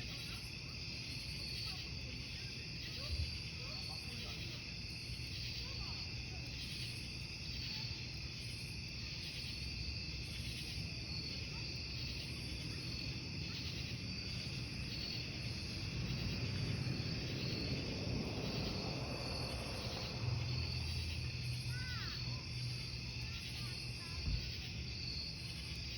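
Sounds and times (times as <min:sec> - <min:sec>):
campfire burning: 0:00.0 - 0:25.9
crickets chirping: 0:00.0 - 0:25.9.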